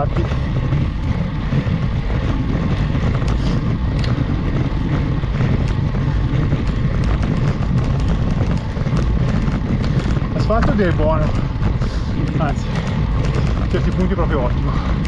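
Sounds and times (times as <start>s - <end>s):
small bike clicks: 0.0s - 15.0s
wind rumbling on microphone: 0.0s - 15.0s.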